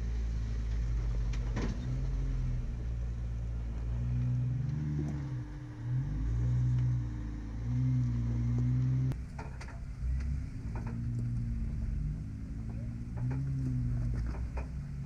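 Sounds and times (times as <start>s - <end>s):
engines revving: 0.0s - 15.0s.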